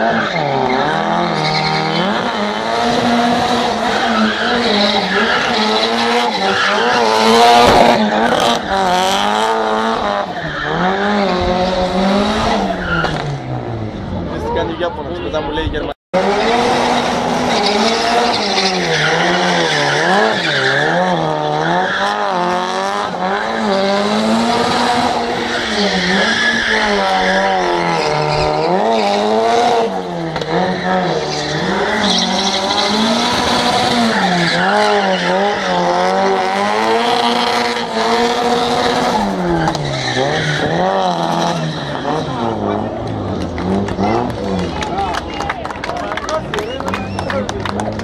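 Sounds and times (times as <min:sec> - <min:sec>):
car engine revving hard: 0:00.0 - 0:14.2, 0:16.2 - 0:45.3.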